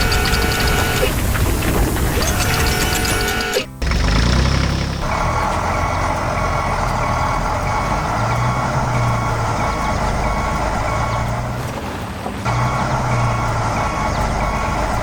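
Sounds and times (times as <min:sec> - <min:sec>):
reversing alarm beeping: 0:00.0 - 0:01.5, 0:02.1 - 0:11.6, 0:12.5 - 0:15.0
heavy vehicle engine running: 0:00.0 - 0:15.0.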